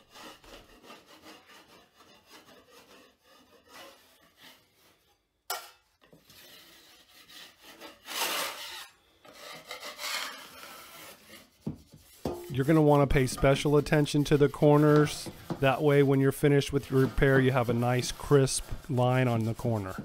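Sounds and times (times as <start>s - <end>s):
scraper blade scraping ceiling: 0.0s - 5.1s, 6.2s - 20.0s.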